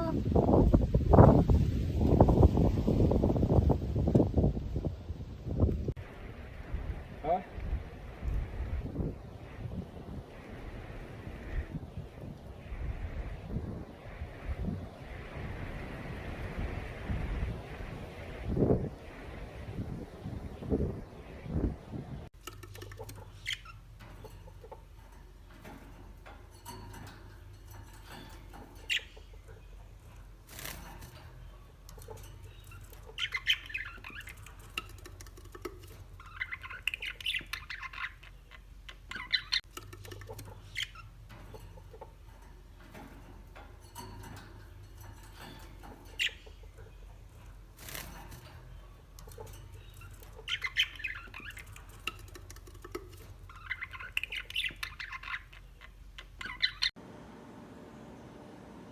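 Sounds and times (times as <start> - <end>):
birds calling: 6.0 - 58.9.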